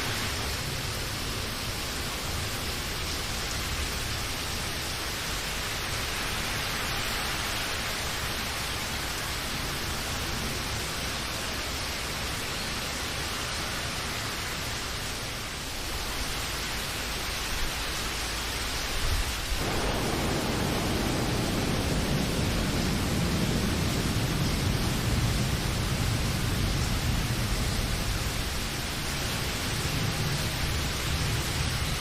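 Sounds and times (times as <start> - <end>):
heavy rain hissing: 0.0 - 32.0.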